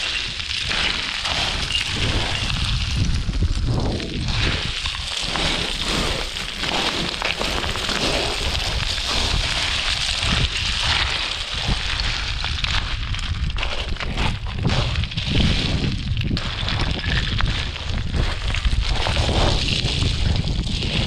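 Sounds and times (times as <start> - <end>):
footsteps crunching on rocky ground: 0.0 - 21.0
wind buffeting microphone: 0.0 - 21.0.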